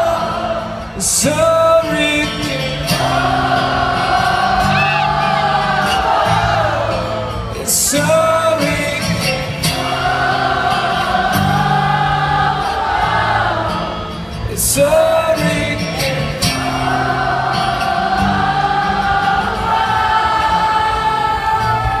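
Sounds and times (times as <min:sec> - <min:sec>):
amplified acoustic guitar chords: 0:00.0 - 0:22.0
crowd singing along: 0:00.0 - 0:22.0.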